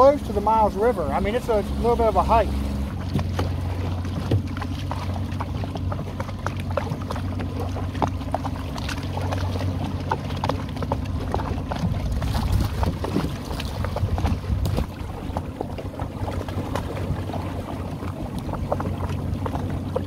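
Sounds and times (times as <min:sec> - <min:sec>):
boat motor idling: 0:00.0 - 0:20.0
water splashes: 0:00.0 - 0:20.0.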